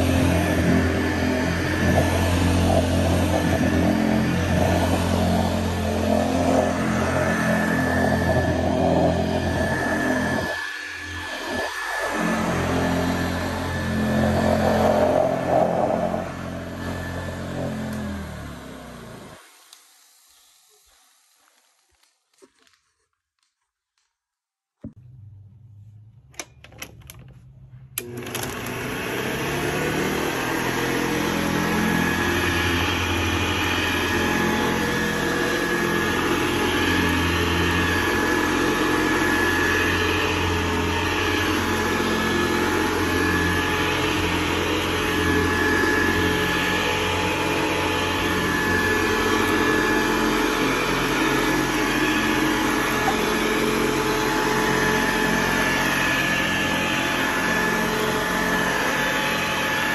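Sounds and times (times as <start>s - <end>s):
vacuum cleaner motor whining: 0.0s - 22.5s, 27.9s - 59.9s.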